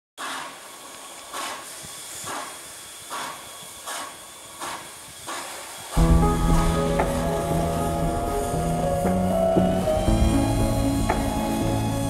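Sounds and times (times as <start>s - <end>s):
steam hissing: 0.2s - 12.0s
steam puffs: 0.2s - 12.0s.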